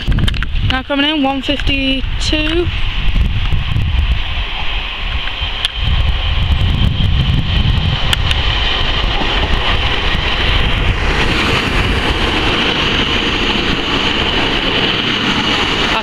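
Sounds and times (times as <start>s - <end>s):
diesel train engines: 0.0s - 16.0s
train wheels on rails: 0.0s - 16.0s.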